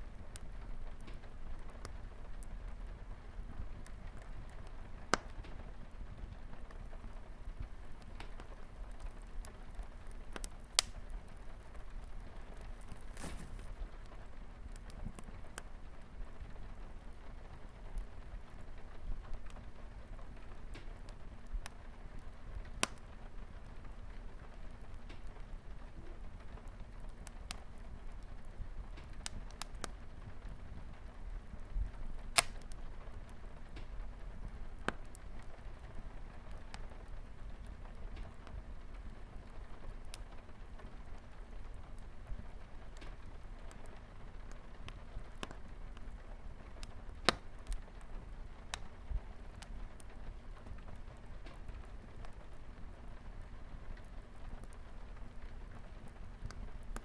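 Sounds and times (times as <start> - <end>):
light rain on a window: 0.0 - 57.0
wood fire crackling and popping: 0.0 - 57.0.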